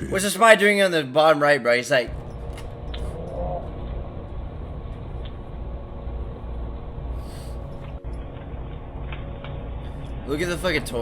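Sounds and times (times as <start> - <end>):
faint hum: 1.9 - 11.0
low rumble with hiss: 1.9 - 11.0.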